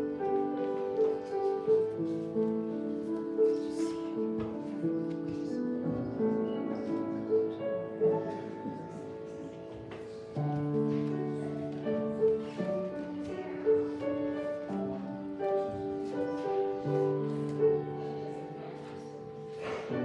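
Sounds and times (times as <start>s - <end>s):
slow keyboard chords and melody: 0.0s - 19.6s.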